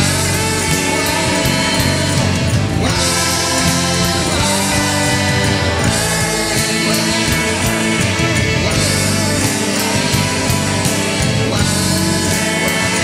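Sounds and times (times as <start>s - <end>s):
bass: 0.0s - 13.0s
drums steady beat: 0.0s - 13.0s
electric guitar: 0.0s - 13.0s
sustained keyboard chords: 0.0s - 13.0s.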